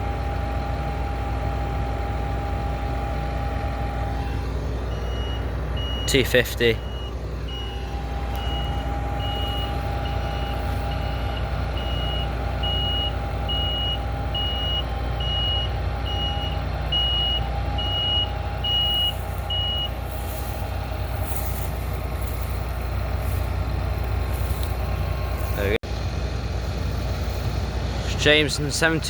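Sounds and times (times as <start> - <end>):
diesel engine running: 0.0 - 29.0
reversing alarm beeping: 0.3 - 25.5.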